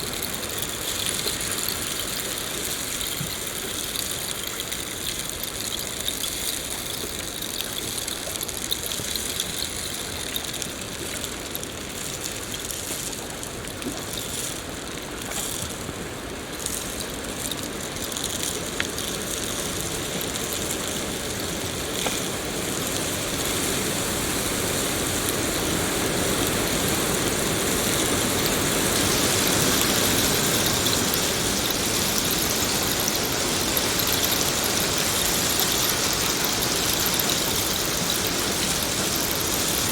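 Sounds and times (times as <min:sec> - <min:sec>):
rain falling: 0:00.0 - 0:39.9
sharp raindrop ticks: 0:00.0 - 0:39.9.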